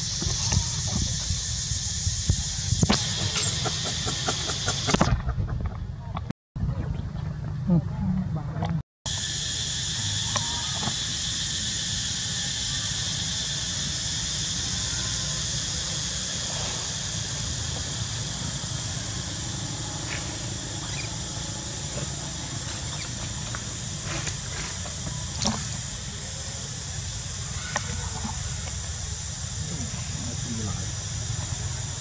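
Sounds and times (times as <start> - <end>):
insects droning: 0.0 - 5.4, 9.1 - 32.0.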